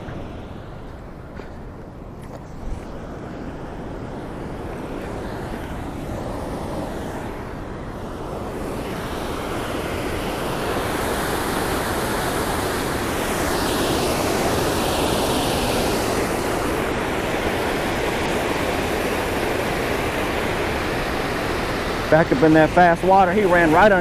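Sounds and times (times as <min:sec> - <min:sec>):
water rushing over a dam: 0:03.2 - 0:24.0.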